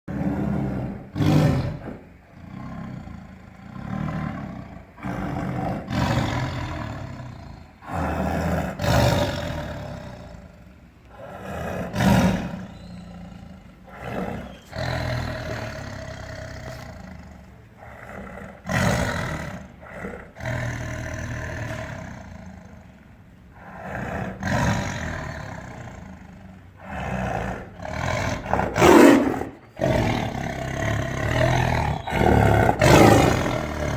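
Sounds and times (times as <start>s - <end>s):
tiger roaring and growling: 0.1s - 33.9s.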